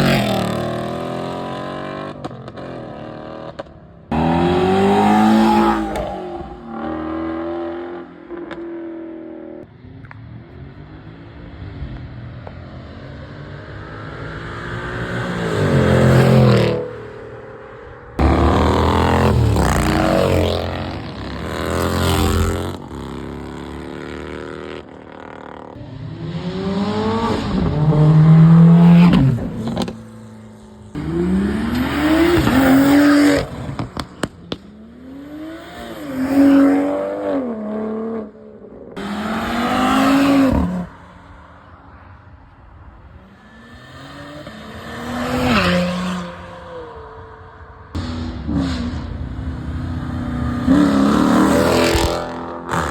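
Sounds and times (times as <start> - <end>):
car engines revving and accelerating: 0.0 - 52.9.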